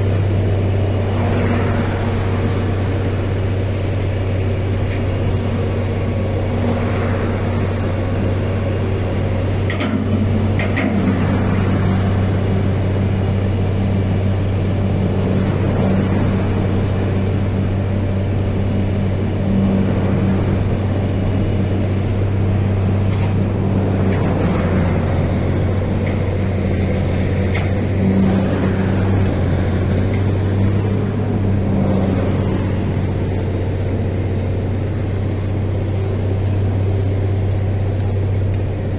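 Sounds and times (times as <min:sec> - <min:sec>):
heavy engine droning: 0:00.0 - 0:38.9
road traffic noise: 0:00.0 - 0:38.9.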